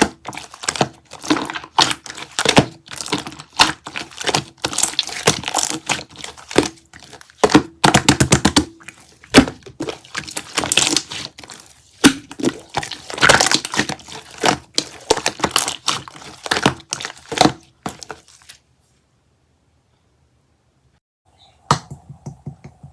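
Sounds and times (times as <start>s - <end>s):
crisp material crunching: 0.0s - 18.6s.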